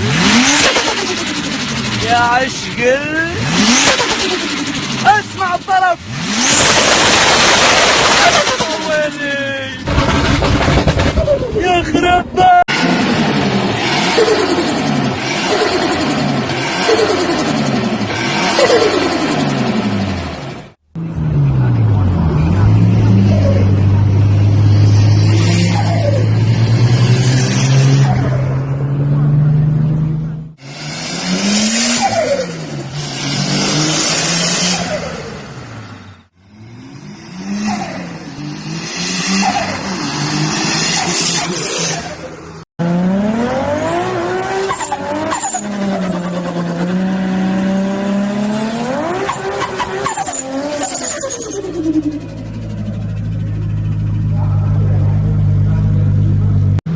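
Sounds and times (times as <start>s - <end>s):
turbocharged car engine running: 0.0s - 56.9s.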